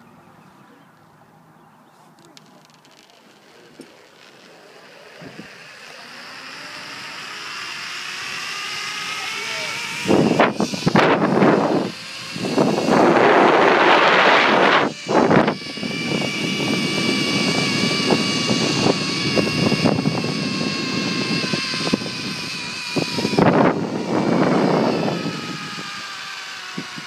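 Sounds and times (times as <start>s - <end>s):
pulley wheels whining on cable: 2.1s - 27.0s.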